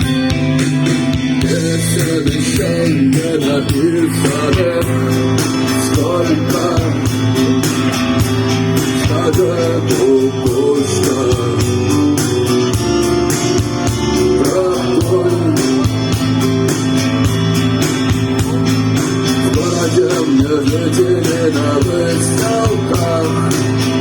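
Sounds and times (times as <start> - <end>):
electric guitar bending notes: 0.0 - 24.0
steady drum beat: 0.0 - 24.0.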